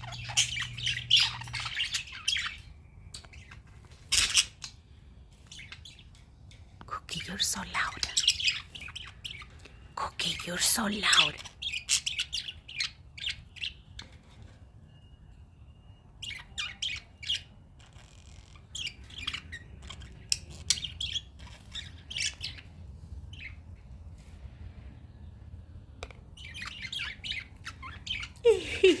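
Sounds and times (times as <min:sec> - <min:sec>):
budgerigars chirping and squawking: 0:00.0 - 0:06.3, 0:07.1 - 0:14.6, 0:16.2 - 0:23.8, 0:26.4 - 0:28.5.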